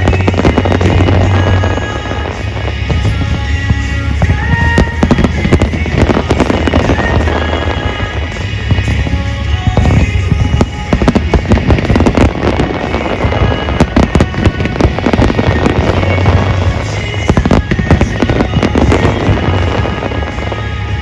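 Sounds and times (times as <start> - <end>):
fireworks bangs and crackles: 0.0 - 21.0
music with steady bass: 0.0 - 21.0.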